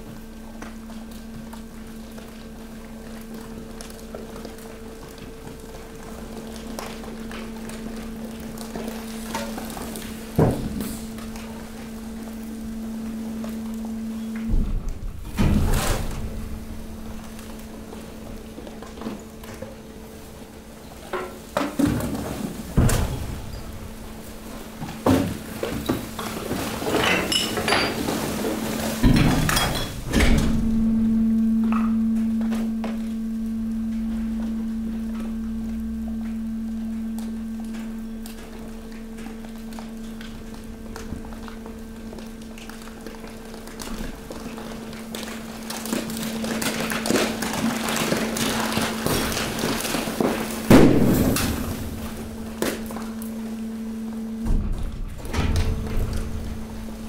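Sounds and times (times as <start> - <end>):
hydraulic press ram pushing garbage: 0.0 - 57.0
hydraulic pump hum: 0.0 - 57.0
waste crunching and bottles clinking: 0.0 - 57.0.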